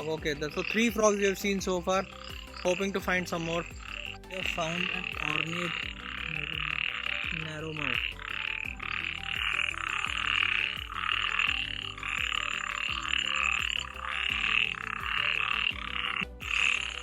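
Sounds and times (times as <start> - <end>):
chorus of frogs calling: 0.0 - 17.0.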